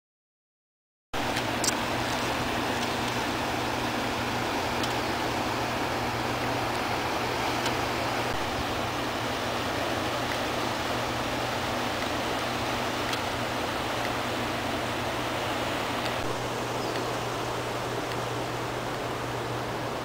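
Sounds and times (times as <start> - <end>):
constant low hum: 1.2 - 20.0
river rapids rushing: 1.2 - 20.0.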